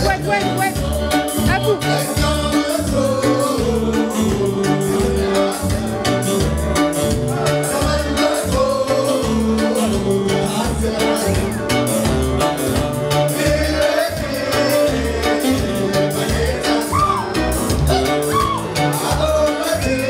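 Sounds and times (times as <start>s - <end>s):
singing over bass beat: 0.0s - 20.0s.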